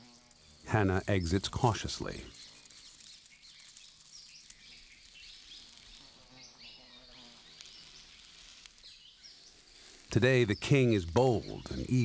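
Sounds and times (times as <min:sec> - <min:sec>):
birds chirping: 0:00.0 - 0:12.0
insects hissing: 0:00.0 - 0:12.0.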